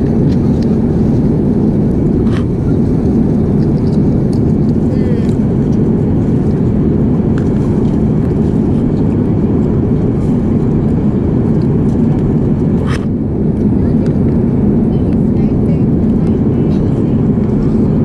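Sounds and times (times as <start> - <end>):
airliner cabin noise: 0.0 - 18.0.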